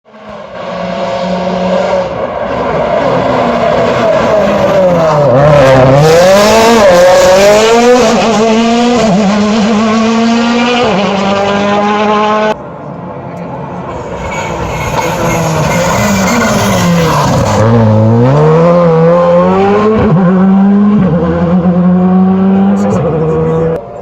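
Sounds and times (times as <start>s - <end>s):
rally car engine revving: 0.1s - 12.6s, 13.6s - 24.0s.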